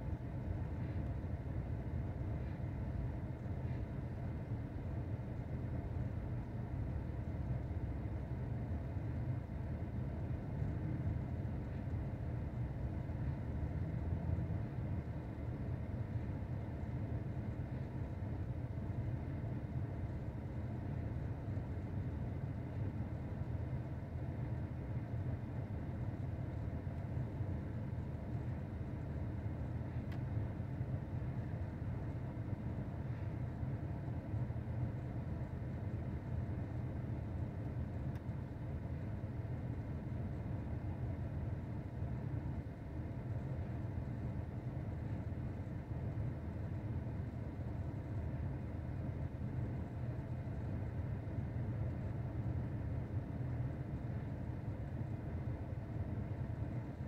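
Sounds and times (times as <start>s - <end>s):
low rumble of engines: 0.0s - 57.0s.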